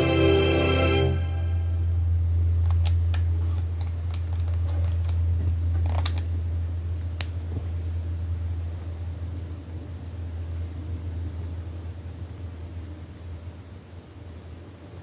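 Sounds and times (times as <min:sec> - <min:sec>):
steady low hum: 0:00.0 - 0:15.0
faint clicks and ticks: 0:02.3 - 0:15.0.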